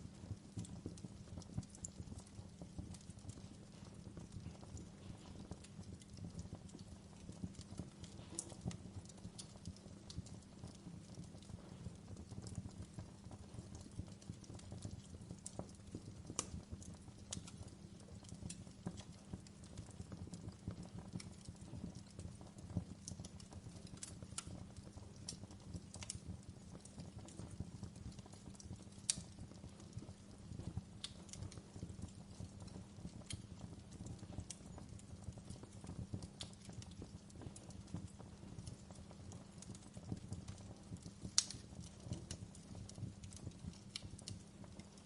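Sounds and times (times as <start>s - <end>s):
campfire wood popping and snapping: 0.0s - 45.0s
low fire rumble: 0.0s - 45.0s.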